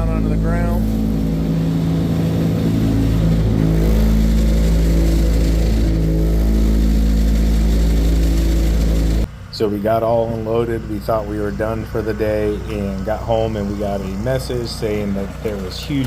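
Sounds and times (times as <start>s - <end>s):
salt spreader running: 0.0s - 16.0s.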